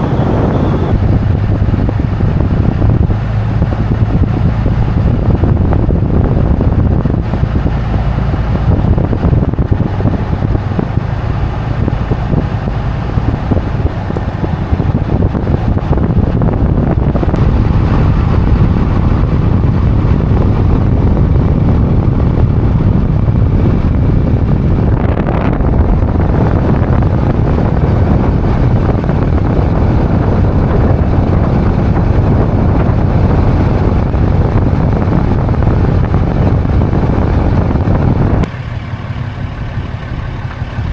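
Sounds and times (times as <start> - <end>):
truck engine and road noise: 0.0 - 40.9
wind rush: 0.0 - 40.9.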